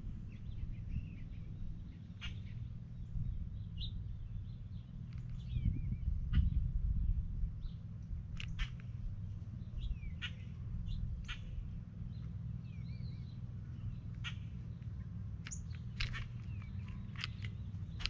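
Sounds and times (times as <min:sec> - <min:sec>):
low background rumble: 0:00.0 - 0:18.0
birds chirping and calling: 0:00.2 - 0:06.6, 0:07.6 - 0:18.0.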